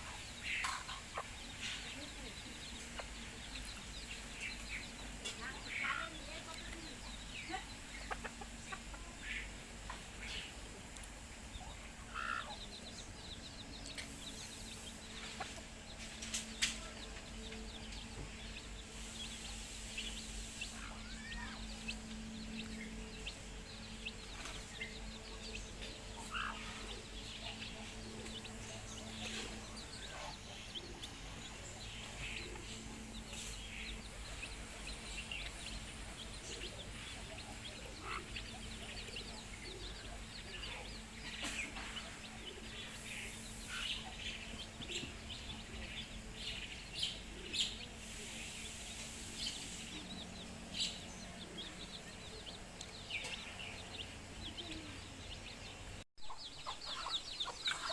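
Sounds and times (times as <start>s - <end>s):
baby chicks peeping: 0.0s - 57.9s.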